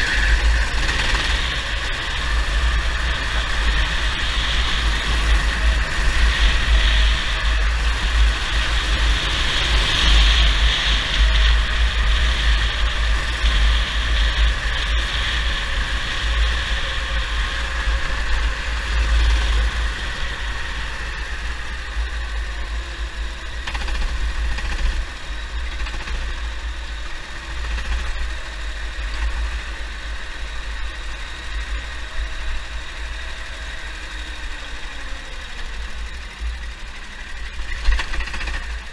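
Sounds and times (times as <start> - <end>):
go-kart engine running hard: 0.0 - 38.9
heavy low rumble: 0.0 - 38.9.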